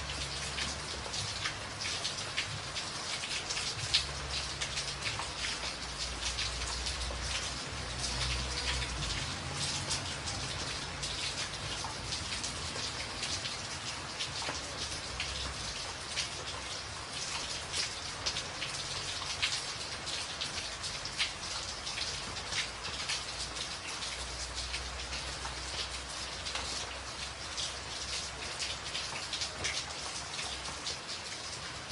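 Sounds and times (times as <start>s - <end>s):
rain on a tin roof: 0.0s - 31.9s.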